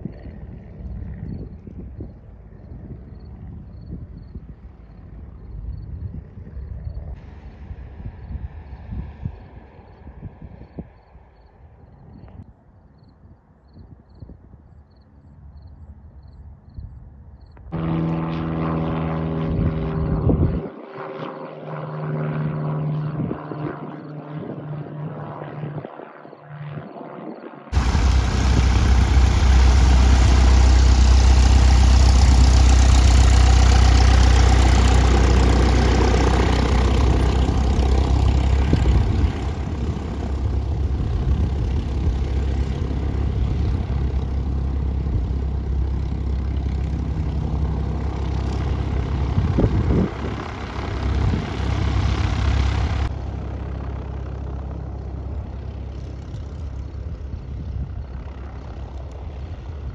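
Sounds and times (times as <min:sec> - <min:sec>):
propeller airplane engine: 0:00.0 - 0:12.4, 0:15.0 - 0:59.9.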